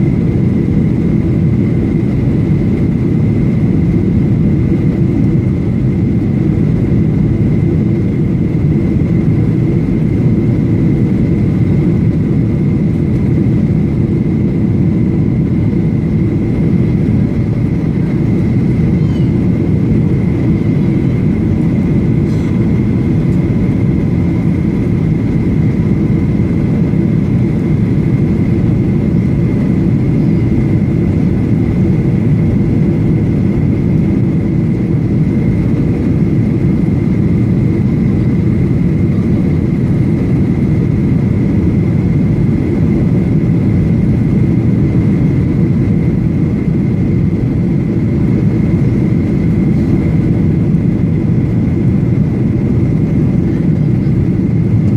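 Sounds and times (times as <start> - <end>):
airplane cabin rumble: 0.0 - 54.9
high engine whine: 0.0 - 54.9.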